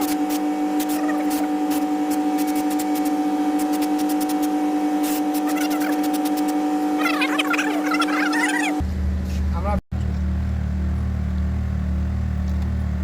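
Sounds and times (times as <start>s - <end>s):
machine hum with flutter: 0.0s - 13.0s.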